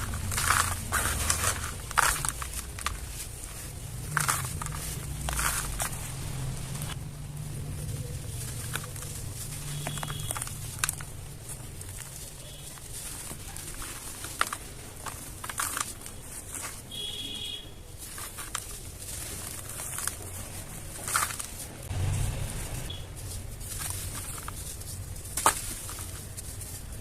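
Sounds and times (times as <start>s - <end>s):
dry dirt crumbling and crunching: 0.0s - 27.0s.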